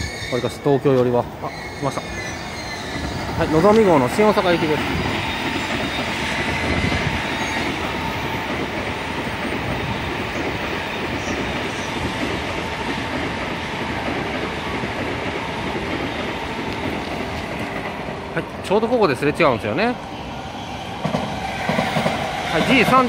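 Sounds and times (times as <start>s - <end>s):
train rushing past: 0.0s - 23.0s.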